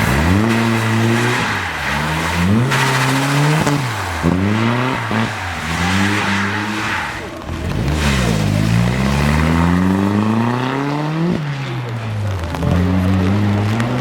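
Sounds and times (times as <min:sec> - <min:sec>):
rally car engine accelerating: 0:00.0 - 0:14.0.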